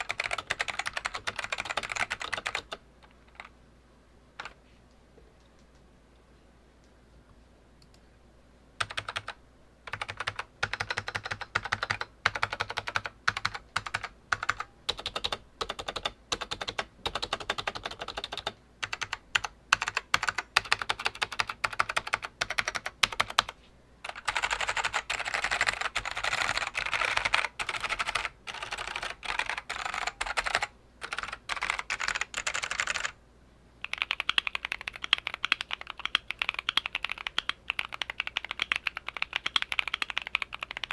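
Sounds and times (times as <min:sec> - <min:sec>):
keyboard typing: 0:00.0 - 0:03.5, 0:04.4 - 0:04.6, 0:08.8 - 0:33.2, 0:33.8 - 0:40.9.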